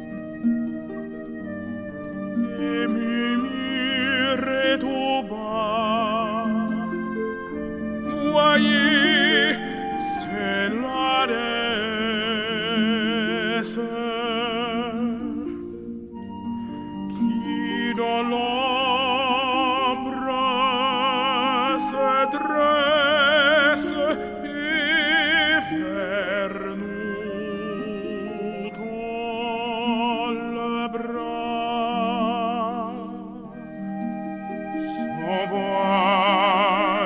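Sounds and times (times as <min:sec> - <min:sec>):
sustained orchestral accompaniment: 0:00.0 - 0:37.0
operatic solo voice singing: 0:02.4 - 0:07.2, 0:08.0 - 0:15.5, 0:17.1 - 0:37.0.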